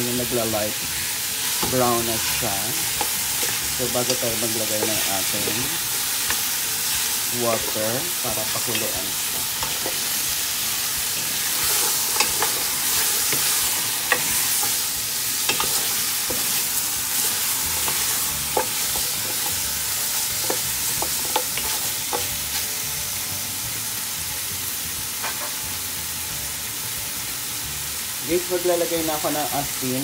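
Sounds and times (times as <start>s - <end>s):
meat sizzling in a pot: 0.0s - 30.0s.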